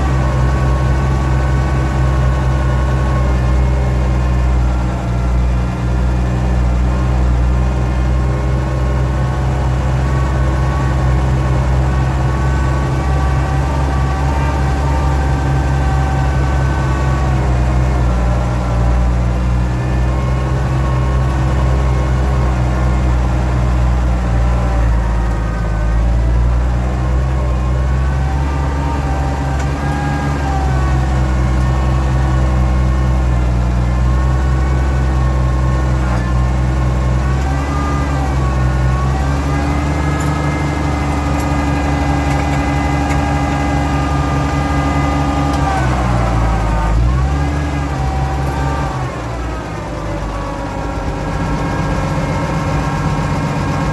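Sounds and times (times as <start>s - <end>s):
hydraulic whine: 0.0s - 53.9s
tractor engine running: 0.0s - 53.9s.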